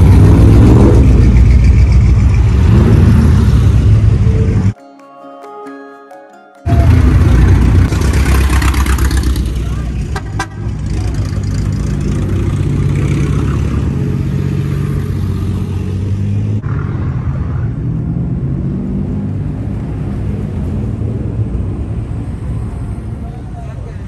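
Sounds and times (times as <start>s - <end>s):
classic car engines driving past: 0.0s - 4.8s, 6.7s - 24.0s.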